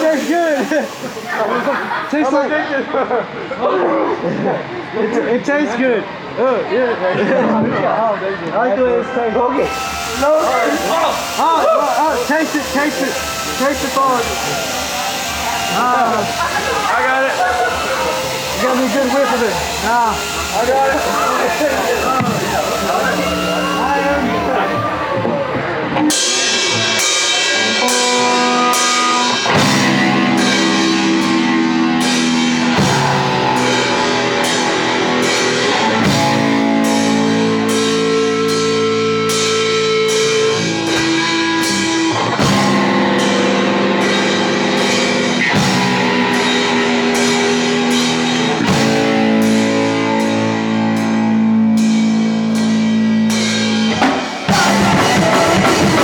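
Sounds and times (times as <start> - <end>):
drum kit beat: 0.0 - 2.1, 9.6 - 56.0
electric guitar chords: 9.6 - 56.0.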